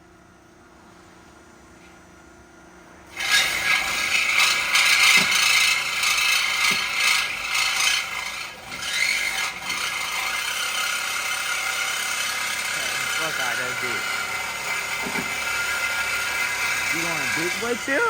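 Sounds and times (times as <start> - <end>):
ratcheting air tool running: 3.1 - 18.0.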